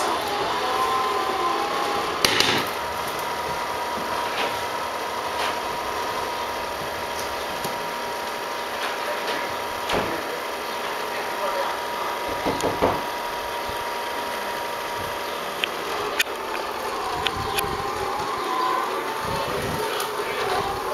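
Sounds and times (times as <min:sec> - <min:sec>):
vacuum cleaner motor whining: 0:00.0 - 0:20.9.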